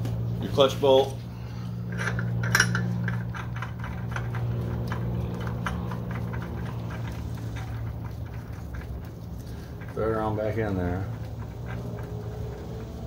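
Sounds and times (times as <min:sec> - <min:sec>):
steady low hum: 0:00.0 - 0:13.0
small metallic clicks and ticks: 0:01.9 - 0:13.0.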